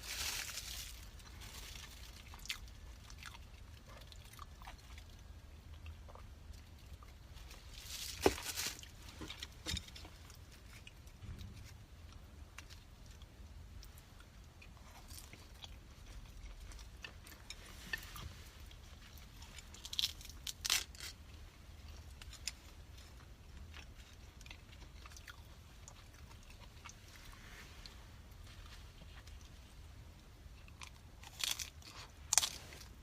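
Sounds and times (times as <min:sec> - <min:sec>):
person chewing food: 0:01.0 - 0:33.0.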